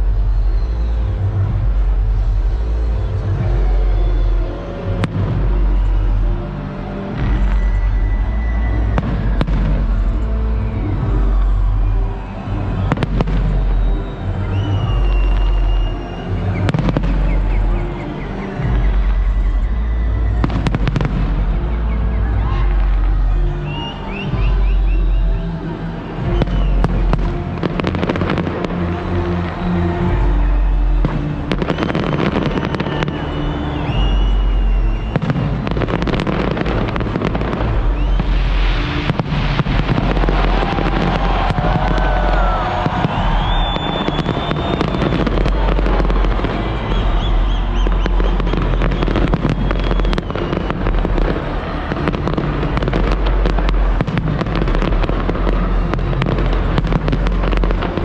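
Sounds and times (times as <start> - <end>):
fireworks bangs and crackling: 0.0 - 58.0
loud music with heavy bass: 0.0 - 58.0.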